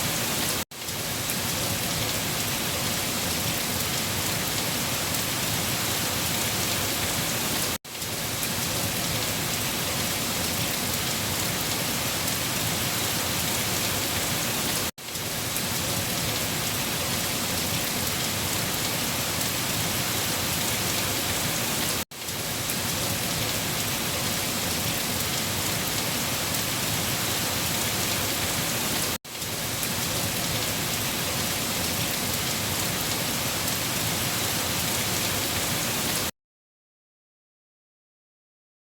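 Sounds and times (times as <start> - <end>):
heavy rain on leaves: 0.0 - 36.3.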